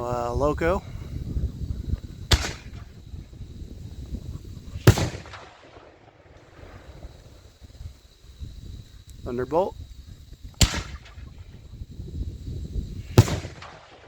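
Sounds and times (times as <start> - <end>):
loud firework report: 0.0 - 8.6, 9.2 - 14.0.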